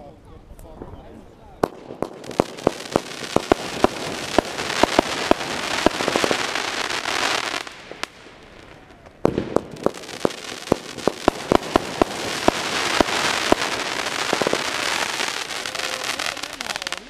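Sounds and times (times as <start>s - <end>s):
firework shots and pops: 1.6s - 17.0s.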